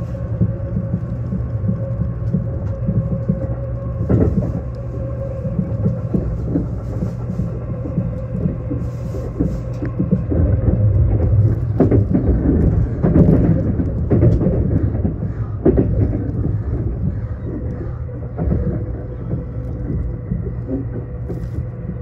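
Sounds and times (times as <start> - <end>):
faint steady hum: 0.0 - 22.0
train wheels rumbling on rails: 0.0 - 22.0
wheels clacking over rail joints: 0.0 - 22.0.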